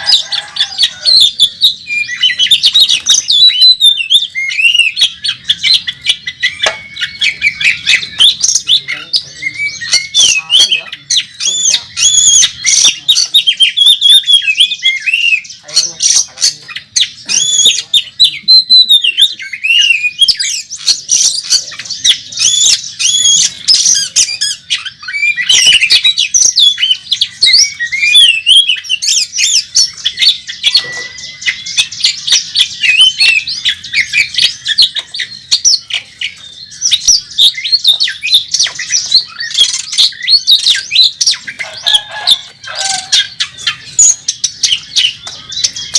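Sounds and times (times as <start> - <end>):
bird singing: 0.0 - 45.9.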